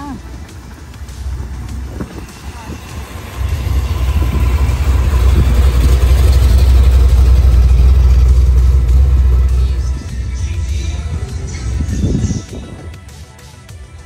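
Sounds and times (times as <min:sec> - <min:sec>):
car engine deep rumble: 0:00.0 - 0:14.0.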